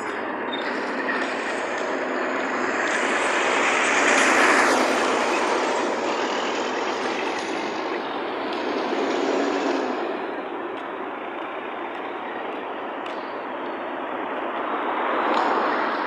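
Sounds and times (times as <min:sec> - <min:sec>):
trucks and cars passing: 0:00.0 - 0:16.0.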